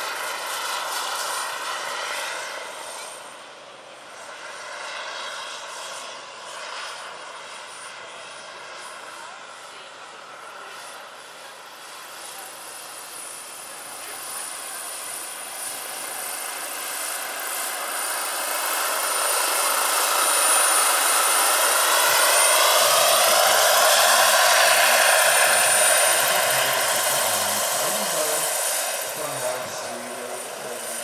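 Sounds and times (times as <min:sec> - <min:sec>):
helicopter rotor noise: 0:00.0 - 0:31.0
high turbine whine: 0:00.0 - 0:31.0.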